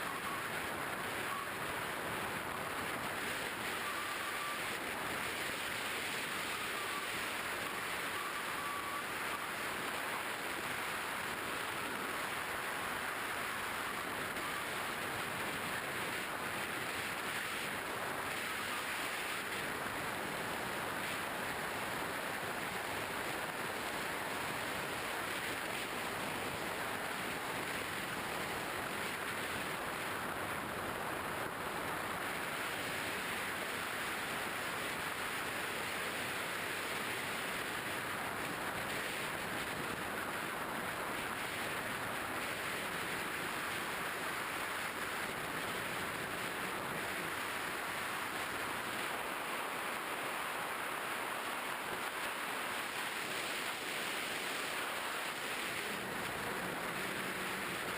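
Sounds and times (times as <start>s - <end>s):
rushing airflow noise: 9.6s - 57.9s.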